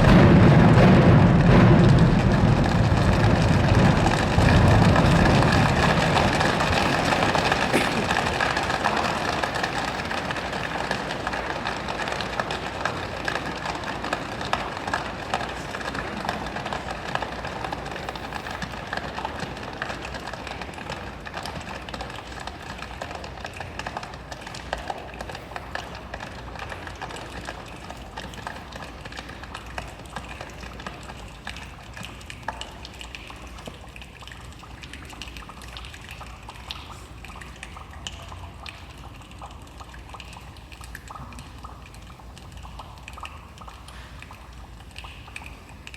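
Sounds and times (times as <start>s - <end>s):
children's choir imitating rain: 0.0s - 45.9s.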